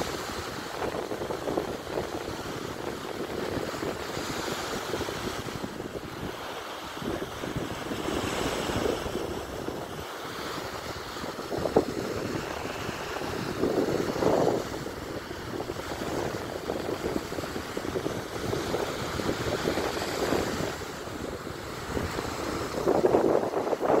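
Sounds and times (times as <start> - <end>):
small waves breaking on beach: 0.0 - 24.0
wind buffeting microphone: 0.0 - 24.0.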